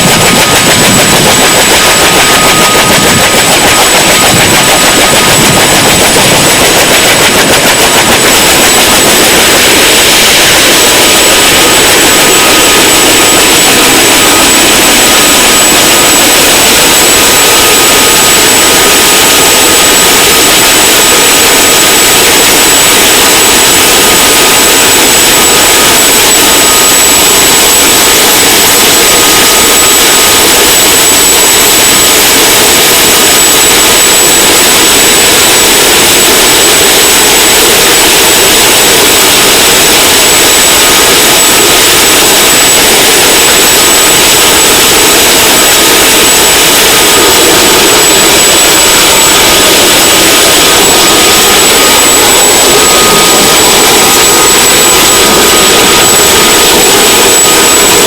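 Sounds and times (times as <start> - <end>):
helicopter engines and rotors roaring: 0.0 - 58.0.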